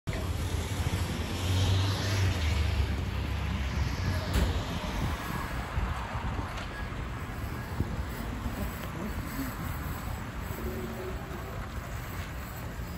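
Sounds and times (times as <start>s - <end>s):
vehicle engine rumble: 0.1s - 12.9s.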